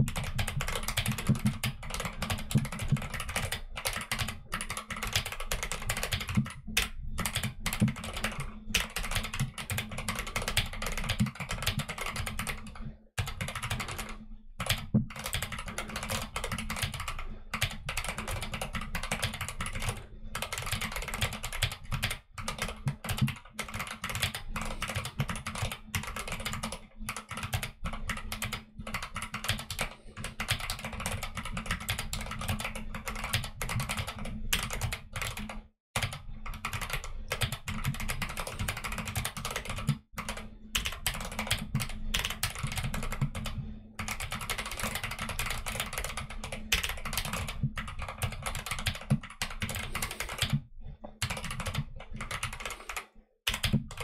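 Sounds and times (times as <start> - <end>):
fast mechanical keyboard typing: 0.0 - 50.6, 51.2 - 54.0.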